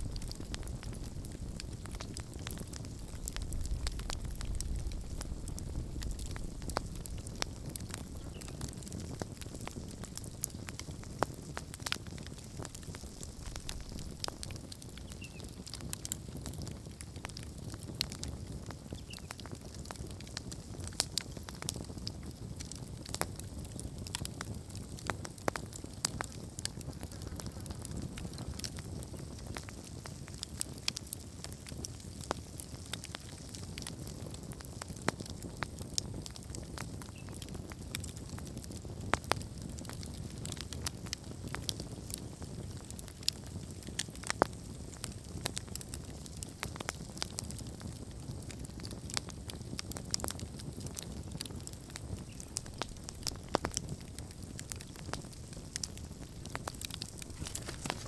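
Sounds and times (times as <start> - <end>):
campfire flames rumbling: 0.0 - 58.0
fire crackles and pops: 0.0 - 58.0.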